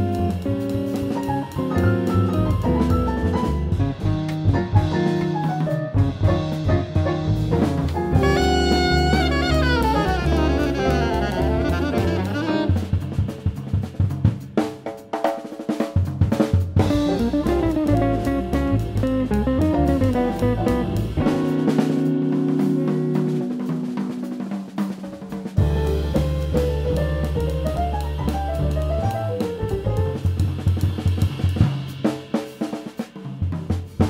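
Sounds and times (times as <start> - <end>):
jazz combo playing: 0.0 - 15.0, 16.0 - 34.0
drums playing alone: 0.0 - 34.0.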